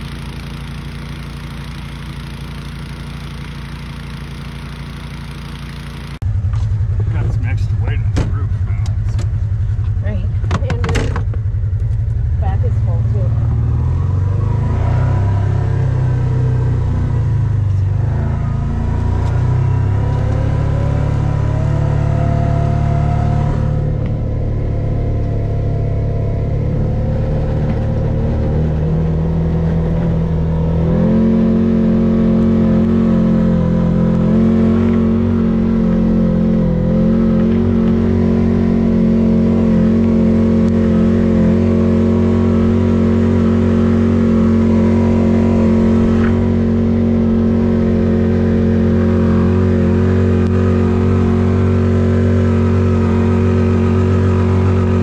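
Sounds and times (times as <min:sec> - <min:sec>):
snow-clearing machine engine: 0:00.0 - 0:10.2, 0:11.6 - 0:55.0.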